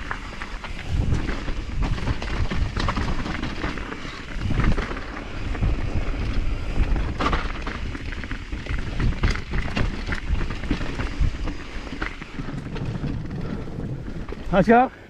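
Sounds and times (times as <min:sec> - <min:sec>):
bike tyres rumbling on dirt: 0:00.0 - 0:15.0
wind buffeting microphone: 0:00.0 - 0:15.0.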